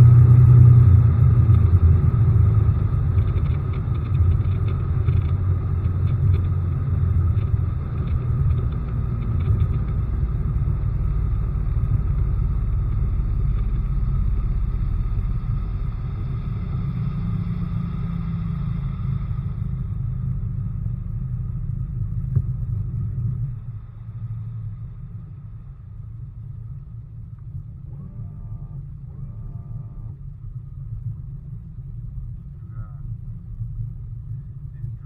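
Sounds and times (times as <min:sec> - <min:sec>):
outboard motor rumbling: 0:00.0 - 0:35.0.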